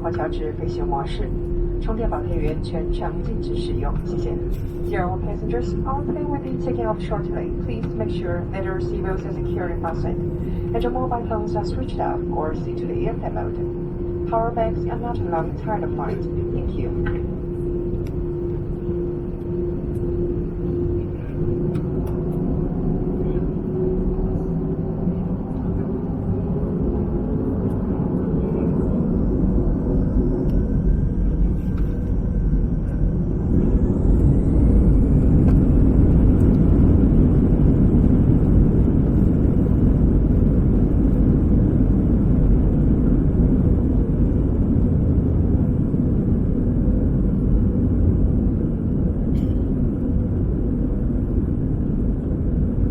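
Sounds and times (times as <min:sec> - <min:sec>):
jet engines rumbling in cabin: 0:00.0 - 0:52.9.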